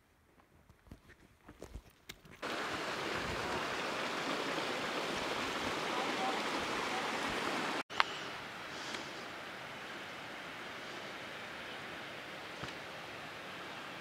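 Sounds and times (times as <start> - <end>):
mountain stream rushing: 2.4 - 14.0.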